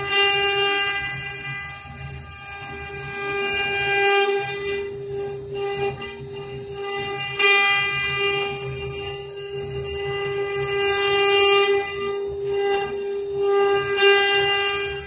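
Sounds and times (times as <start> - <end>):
router spindles whining: 0.0 - 15.0.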